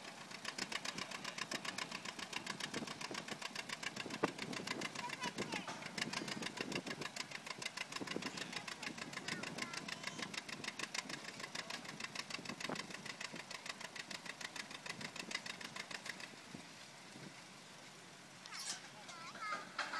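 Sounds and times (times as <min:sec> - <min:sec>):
tractor engine popping: 0:00.0 - 0:16.8, 0:18.8 - 0:19.9.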